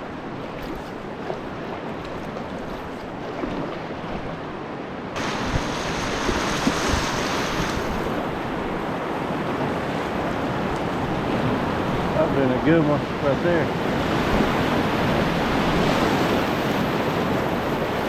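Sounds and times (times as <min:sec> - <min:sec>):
rushing whitewater: 0:00.0 - 0:18.0.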